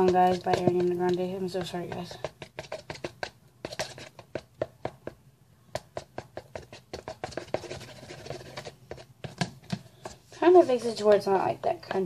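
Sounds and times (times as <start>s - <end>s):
utensil scraping a bowl: 0.0s - 4.7s, 6.0s - 11.2s.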